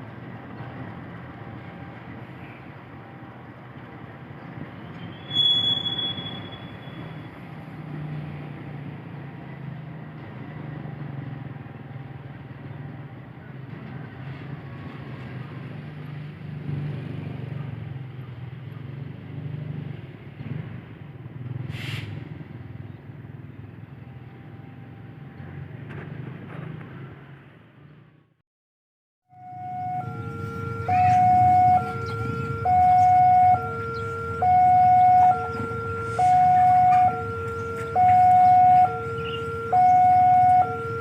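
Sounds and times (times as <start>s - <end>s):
engine rumble of passing vehicles: 0.0s - 28.4s, 29.3s - 41.0s.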